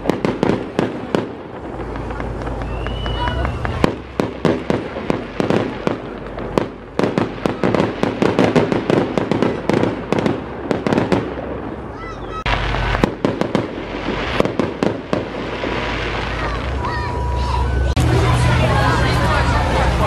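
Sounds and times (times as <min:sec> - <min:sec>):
fireworks cracking and banging: 0:00.0 - 0:20.0.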